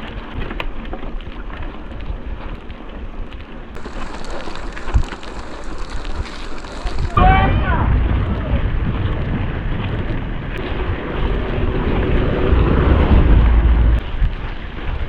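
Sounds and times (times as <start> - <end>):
low rumble from bike ride: 0.0 - 15.0
wind on microphone: 0.0 - 15.0.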